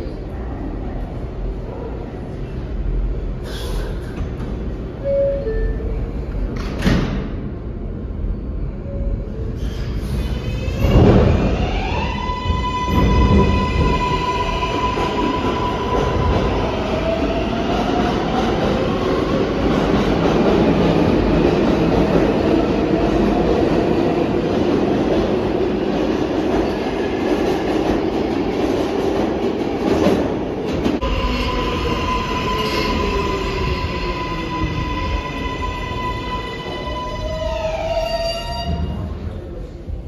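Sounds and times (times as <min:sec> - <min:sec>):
subway train wheels rumbling: 0:00.0 - 0:40.0.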